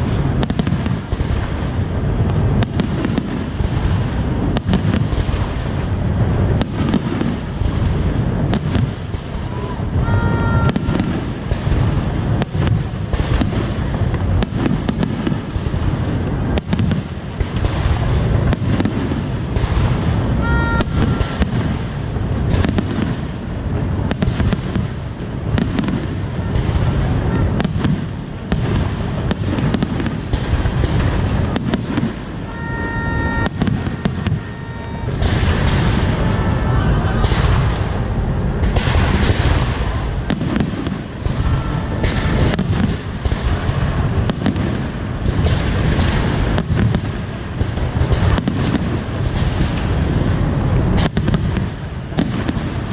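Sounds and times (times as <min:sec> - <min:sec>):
fireworks bangs and crackles: 0:00.0 - 0:52.9
low rumble of explosions: 0:00.0 - 0:52.9.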